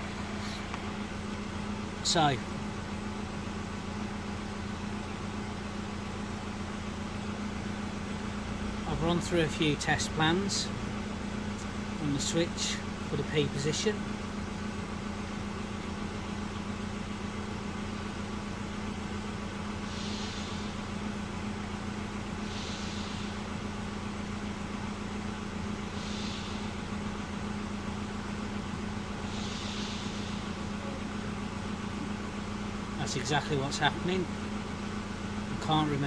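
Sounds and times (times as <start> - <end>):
mechanical hum with low drone: 0.0 - 36.0.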